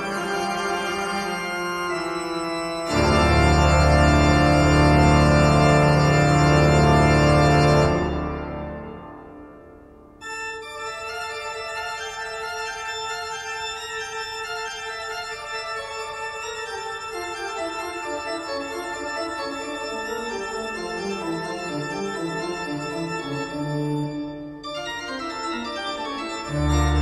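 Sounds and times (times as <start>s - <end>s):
slow organ music: 0.0s - 27.0s.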